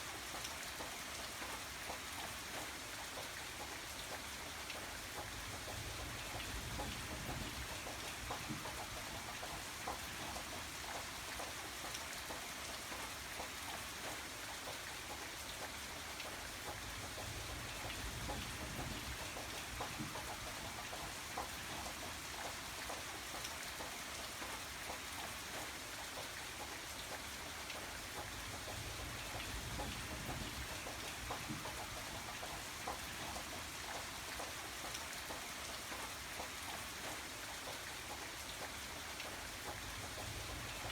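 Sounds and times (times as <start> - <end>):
hiss of rainfall: 0.0 - 40.9
raindrops ticking on a surface: 0.0 - 40.9.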